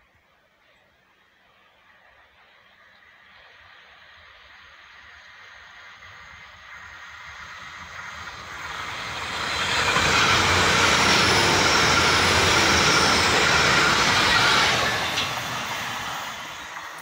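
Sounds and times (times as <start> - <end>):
train passing at speed: 0.0 - 17.0
wheels rushing on rail: 0.1 - 17.0.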